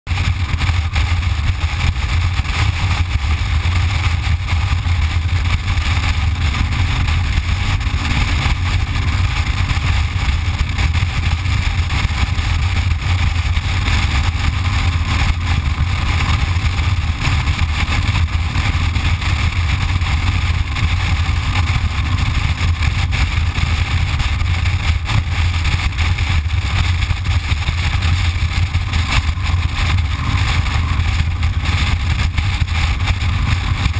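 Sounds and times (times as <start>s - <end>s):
motorcycle engine rumble: 0.1s - 33.9s
road noise: 0.1s - 33.9s
wind noise: 0.1s - 33.9s.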